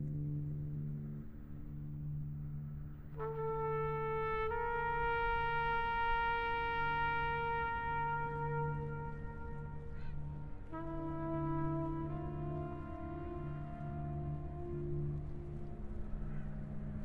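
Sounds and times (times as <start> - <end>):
low sustained drone: 0.0 - 17.0
trumpet long note: 3.1 - 17.0.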